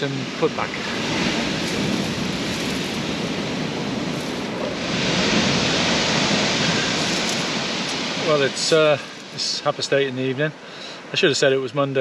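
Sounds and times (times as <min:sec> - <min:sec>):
surf washing on shingle beach: 0:00.0 - 0:12.0.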